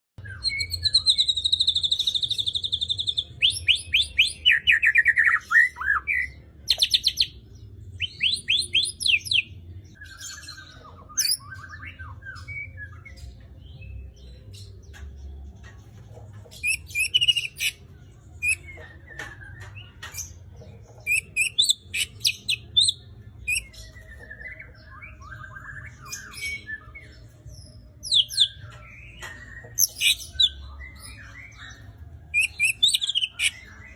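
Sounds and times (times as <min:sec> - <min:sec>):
songbird whistles and trills: 0:00.2 - 0:15.1, 0:16.4 - 0:33.9.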